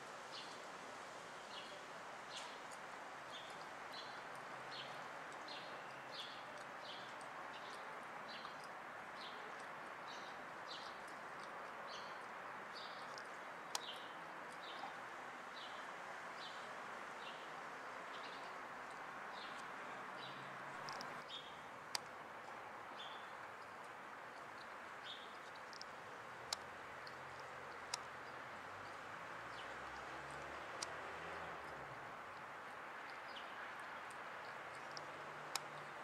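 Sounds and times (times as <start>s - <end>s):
background hiss: 0.0s - 36.0s.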